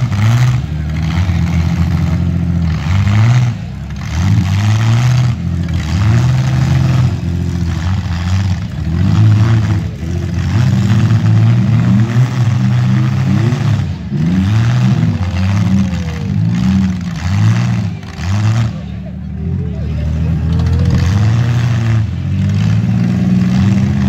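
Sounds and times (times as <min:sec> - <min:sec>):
car engines revving and idling: 0:00.0 - 0:24.0.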